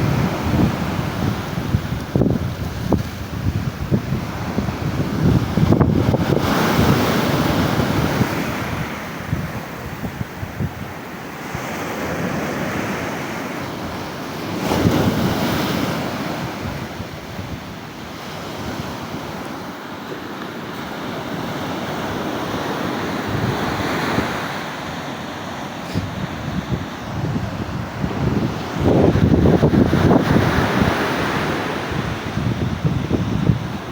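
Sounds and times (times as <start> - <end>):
wind buffeting microphone: 0.0 - 19.6, 20.9 - 33.9
waves surging and breaking: 0.0 - 33.9.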